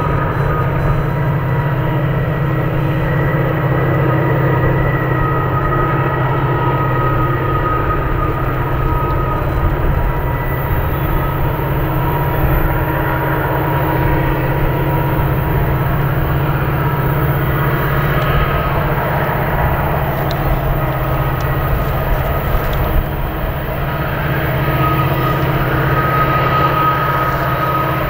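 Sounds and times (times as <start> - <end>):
freight train rumble: 0.0 - 28.0
thin high steady tones: 0.0 - 28.0.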